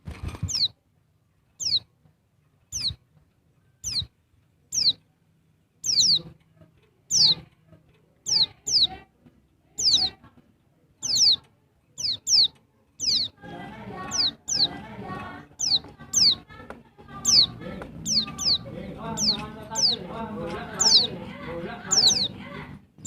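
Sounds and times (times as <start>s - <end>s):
bird chirping: 0.3s - 0.8s, 1.4s - 5.2s, 5.8s - 6.4s, 7.0s - 7.5s, 8.2s - 9.0s, 9.7s - 10.2s, 11.0s - 23.0s.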